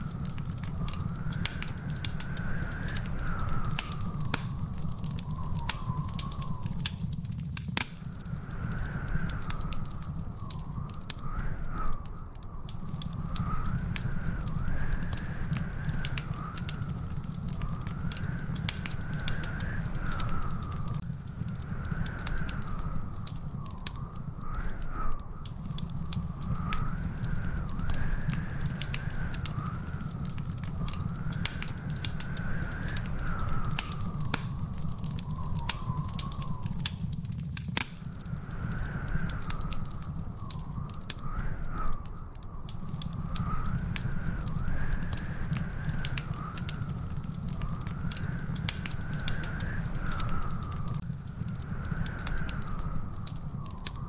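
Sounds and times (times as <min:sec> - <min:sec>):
thin wavering whistling tone: 0:00.0 - 0:07.3, 0:08.0 - 0:37.2, 0:38.0 - 0:54.0
wood fire crackling: 0:00.0 - 0:54.0.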